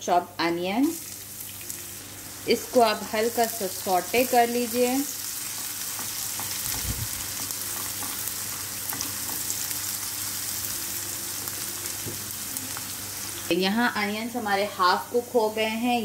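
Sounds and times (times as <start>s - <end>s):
onions sizzling in oil: 0.4s - 15.6s.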